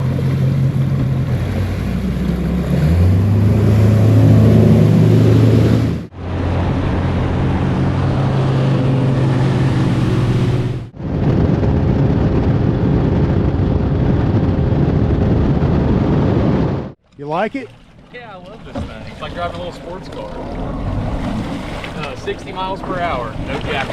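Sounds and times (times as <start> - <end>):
boat engine running: 0.0 - 23.9
wind and water rushing: 0.0 - 23.9.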